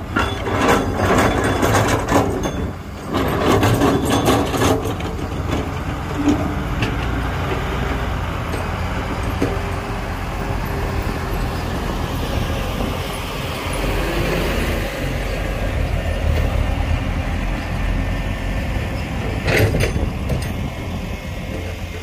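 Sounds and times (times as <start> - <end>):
construction machinery engine rumble: 0.0 - 22.0.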